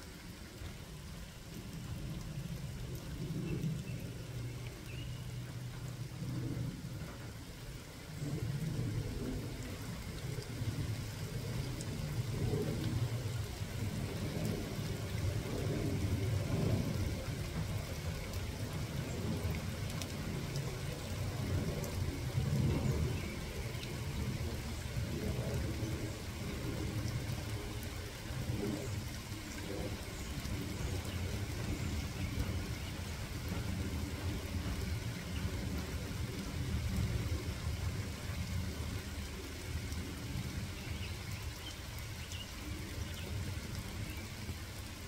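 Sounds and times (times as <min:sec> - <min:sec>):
steady rain falling: 0:00.0 - 0:45.0
low rumble: 0:01.6 - 0:41.0.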